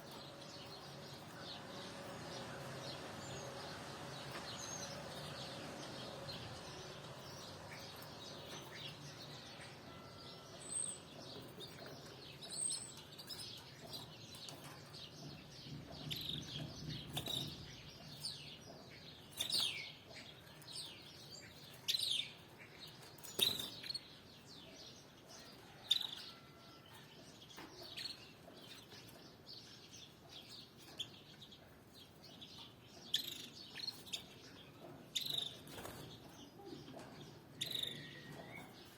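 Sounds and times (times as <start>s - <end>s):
canaries chirping: 0.0s - 38.9s.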